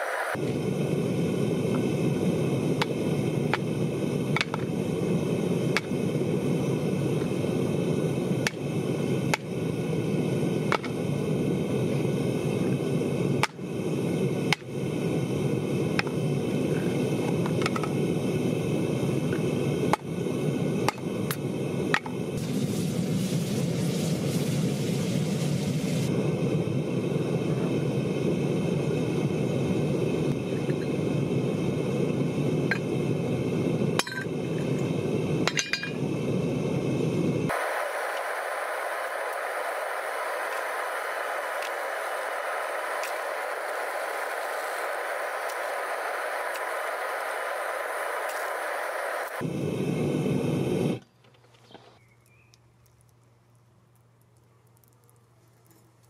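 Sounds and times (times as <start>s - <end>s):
bright hiss: 0.0s - 51.0s
furnace burner rushing: 0.0s - 52.6s.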